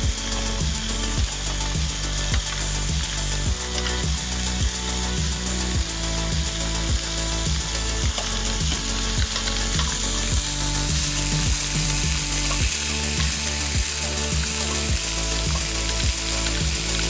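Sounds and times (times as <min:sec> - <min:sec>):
background music with steady beat: 0:00.0 - 0:17.0
low bass line: 0:00.0 - 0:17.0.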